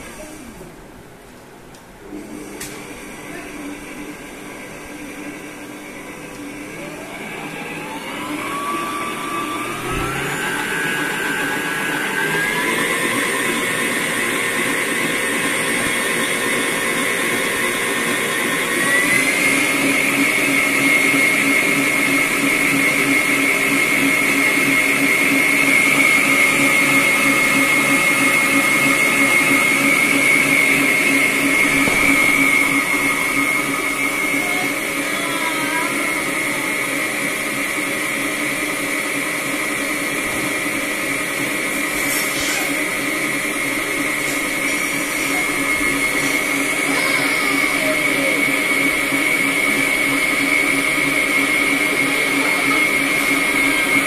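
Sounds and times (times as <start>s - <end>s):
stand mixer whisk beating cream: 2.0s - 54.0s.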